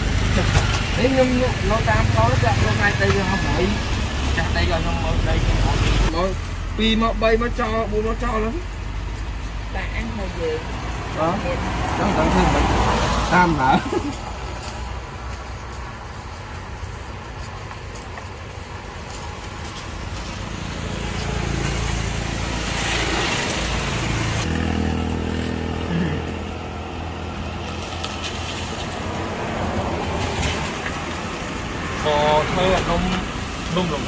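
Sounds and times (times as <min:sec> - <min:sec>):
vehicle passing: 0:00.0 - 0:16.3, 0:19.2 - 0:34.0
steady engine hum: 0:00.0 - 0:34.0.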